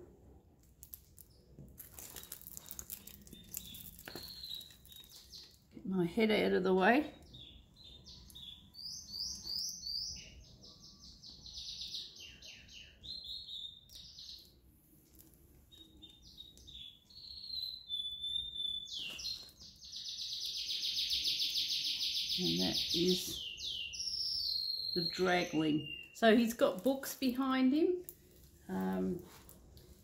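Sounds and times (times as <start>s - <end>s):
small birds chirping: 1.0s - 30.0s.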